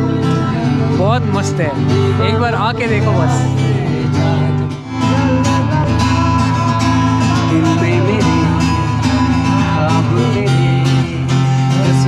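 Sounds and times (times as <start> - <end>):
acoustic guitar strumming: 0.0 - 12.0
sustained bass notes: 0.0 - 12.0.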